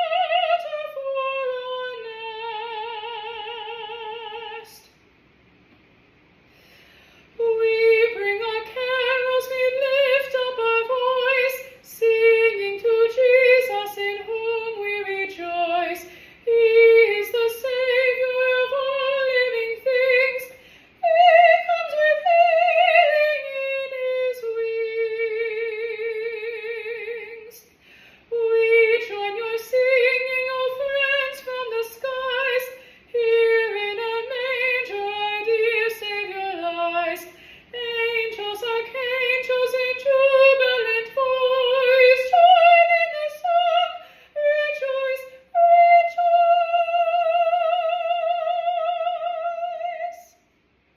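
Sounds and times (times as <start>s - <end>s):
woman singing carol unaccompanied: 0.0s - 5.0s, 7.4s - 50.4s.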